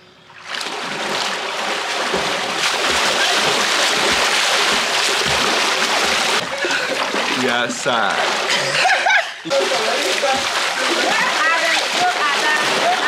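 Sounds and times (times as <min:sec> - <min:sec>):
water splashing and churning: 0:00.4 - 0:13.0.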